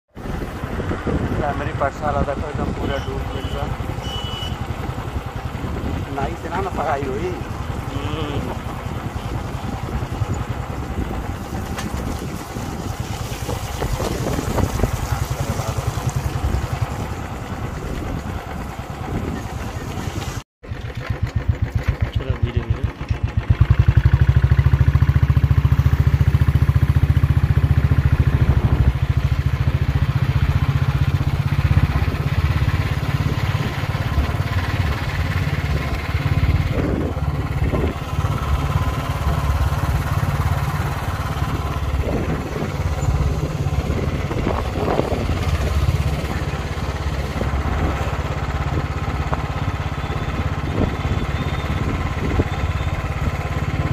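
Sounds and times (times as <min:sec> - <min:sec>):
motorcycle engine running: 0:00.1 - 0:53.9.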